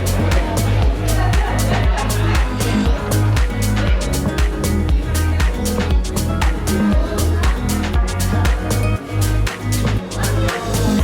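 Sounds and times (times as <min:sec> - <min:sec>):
low bass notes: 0:00.0 - 0:11.0
music with steady beat: 0:00.0 - 0:11.0.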